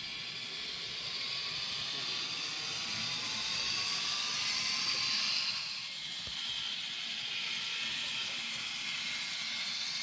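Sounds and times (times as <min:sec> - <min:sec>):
model train diesel engine sound: 0:00.0 - 0:10.0
model train running on track: 0:00.0 - 0:10.0.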